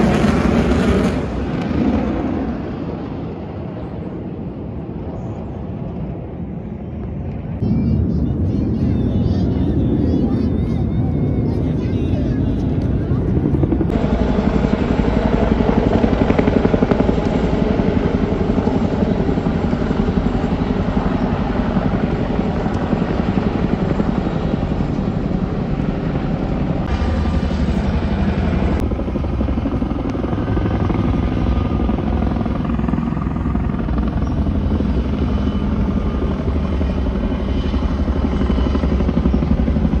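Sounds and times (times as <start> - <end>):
helicopter rotors beating: 0.0 - 40.0.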